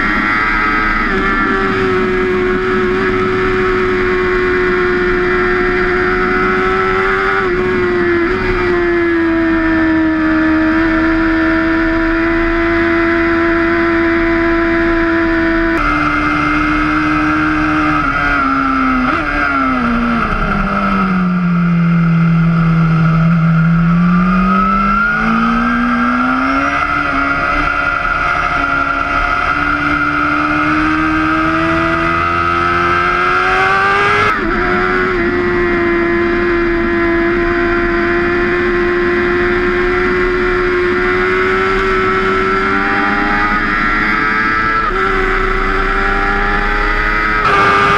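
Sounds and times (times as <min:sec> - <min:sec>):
motorcycle engine at speed: 0:00.0 - 0:47.9.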